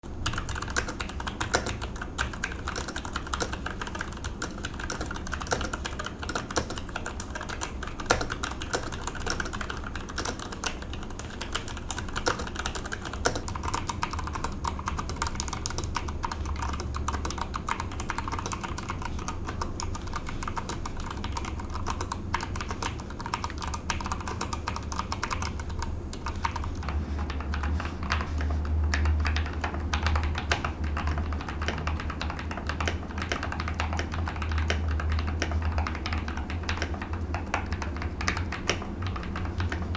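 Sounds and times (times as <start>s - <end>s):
fast typing on mechanical keyboard: 0.1s - 39.9s.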